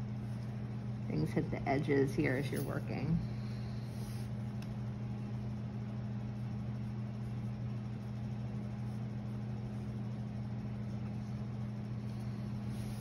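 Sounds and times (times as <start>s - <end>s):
low mechanical hum with hiss: 0.0s - 13.0s.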